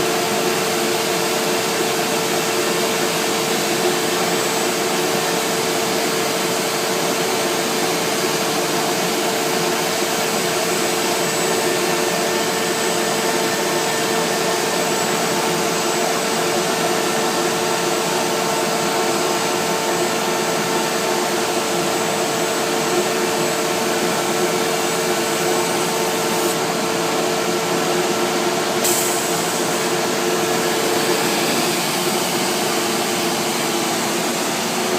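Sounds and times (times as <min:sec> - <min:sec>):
cnc router cutting: 0:00.0 - 0:34.9.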